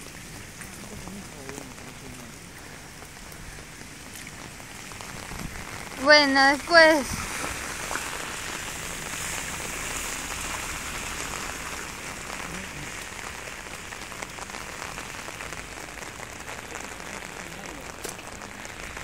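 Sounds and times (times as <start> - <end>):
rain on wet pavement: 0.0 - 19.0.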